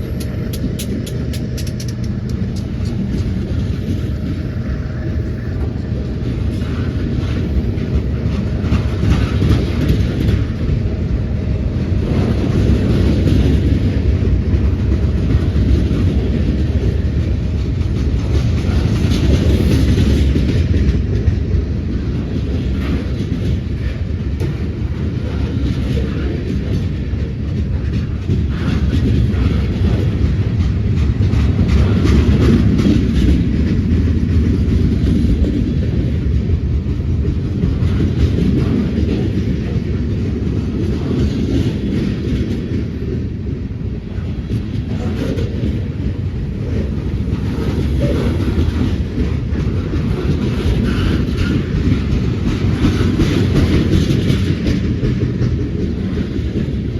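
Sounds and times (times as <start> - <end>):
train cars rumbling past: 0.0 - 56.9
wheels clacking over rail joints: 0.0 - 56.9.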